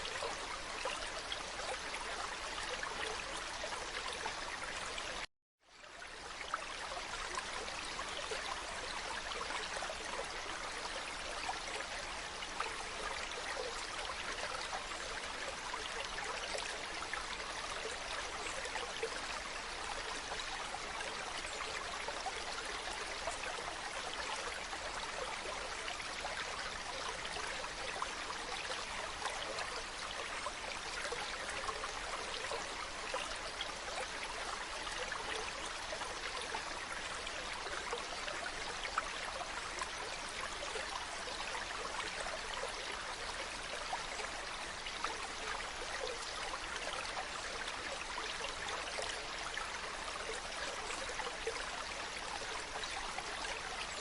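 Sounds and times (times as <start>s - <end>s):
stream babbling and rushing: 0.0s - 54.0s.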